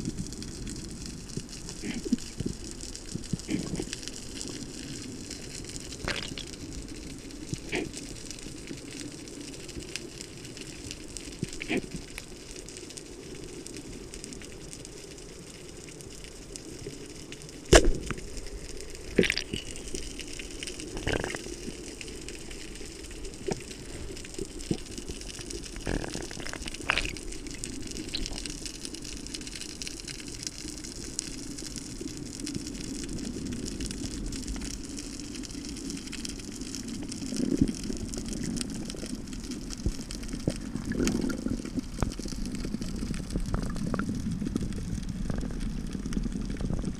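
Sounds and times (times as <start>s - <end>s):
underwater crackling hiss: 0.0s - 46.9s.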